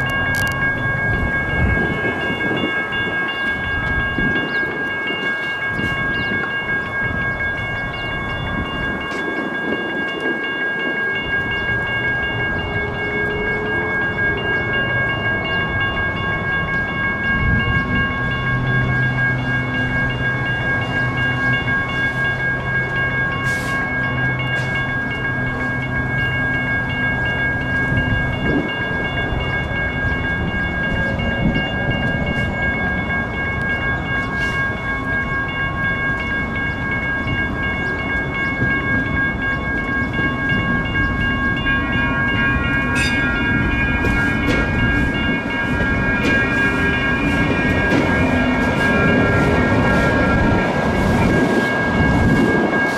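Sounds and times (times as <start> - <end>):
light rail train rumbling: 0.0 - 52.9
railroad crossing bells ringing: 0.0 - 52.9
second set of bell tones: 0.0 - 52.9.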